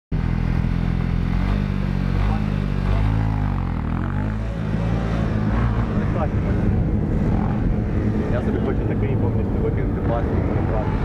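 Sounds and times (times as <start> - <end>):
motorcycle engine accelerating: 0.2 - 11.0.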